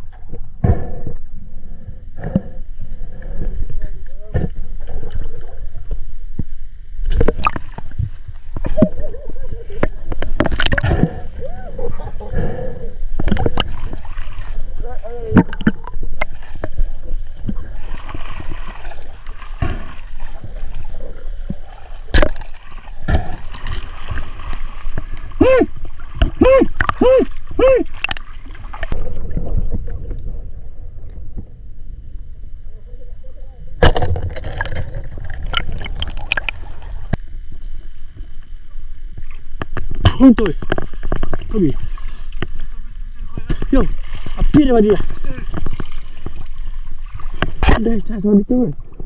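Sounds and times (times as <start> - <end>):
steady low rumble: 0.0 - 49.0
water sloshing and splashing: 2.8 - 12.3, 13.1 - 31.5, 33.8 - 49.0.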